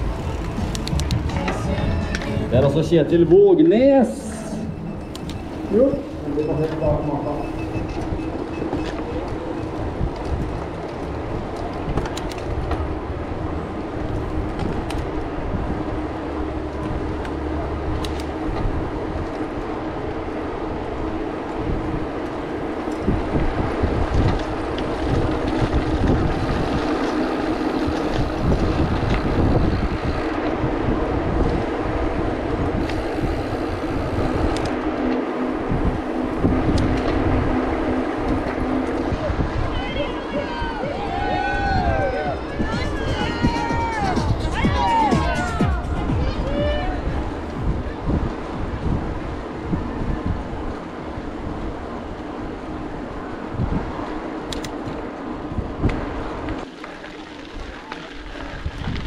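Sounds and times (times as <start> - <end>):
tyres rolling on asphalt: 0.0 - 59.0
low hum: 4.1 - 56.7
wind noise on microphone: 4.3 - 59.0.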